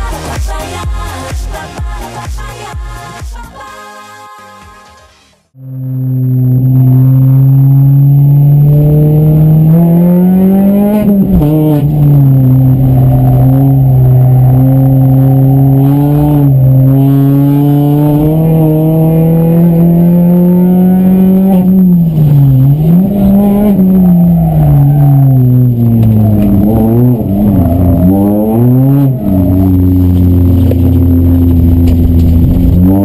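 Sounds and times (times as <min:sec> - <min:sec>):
rally car engine revving: 0:05.6 - 0:33.0.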